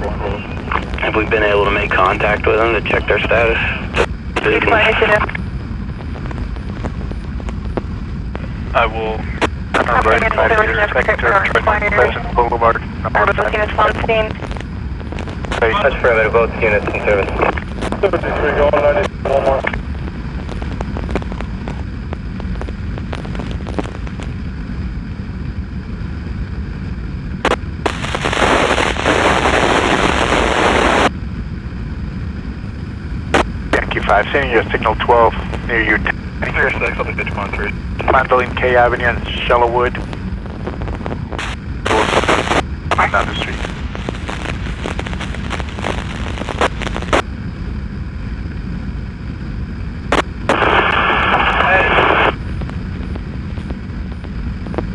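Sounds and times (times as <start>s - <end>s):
loud radio static: 0.0s - 24.4s, 27.4s - 31.1s, 33.3s - 47.3s, 50.0s - 54.9s
crackling clicks: 0.4s - 8.6s, 9.2s - 12.6s, 13.3s - 24.8s, 27.4s - 31.1s, 33.3s - 47.6s, 50.0s - 54.9s.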